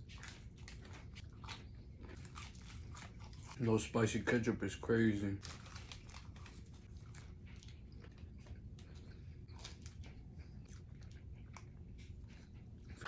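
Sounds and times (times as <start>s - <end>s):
person chewing food: 0.0s - 3.7s, 5.4s - 13.0s.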